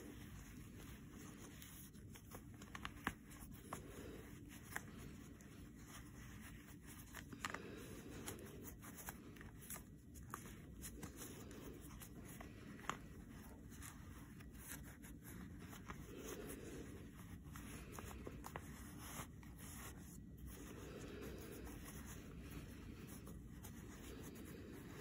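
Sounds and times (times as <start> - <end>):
fabric rustling and rubbing: 0.0 - 25.0.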